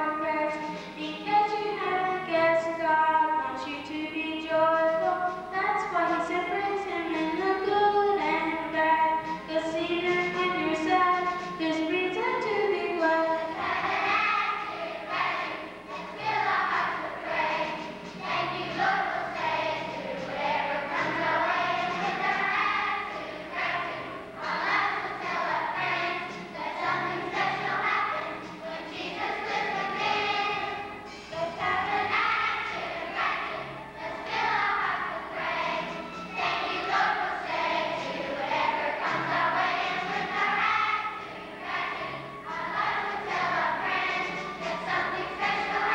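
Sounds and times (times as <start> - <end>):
children's choir singing: 0.0 - 45.9.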